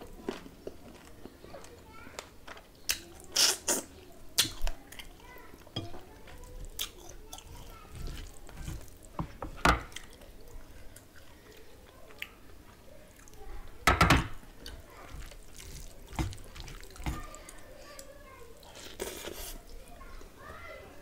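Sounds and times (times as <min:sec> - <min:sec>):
wet chewing and mouth clicks: 0:00.2 - 0:12.4, 0:14.6 - 0:19.8.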